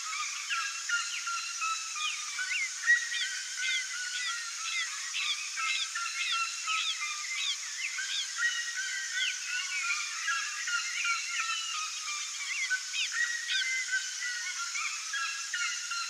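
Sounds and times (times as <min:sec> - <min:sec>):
chorus of birds calling: 0:00.0 - 0:16.0
steady high hiss: 0:00.0 - 0:16.0.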